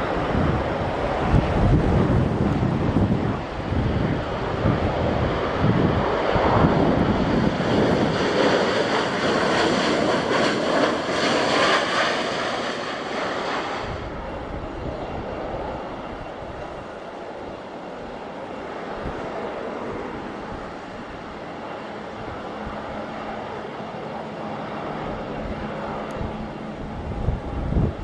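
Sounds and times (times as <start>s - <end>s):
wind buffeting microphone: 0.0s - 23.7s, 24.6s - 28.0s
jet engines running loud: 0.0s - 28.0s.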